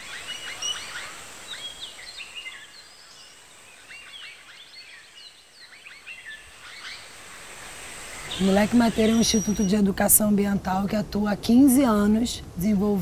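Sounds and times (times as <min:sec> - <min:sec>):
birds chirping and twittering: 0:00.0 - 0:12.8
faint high hiss: 0:00.0 - 0:13.0.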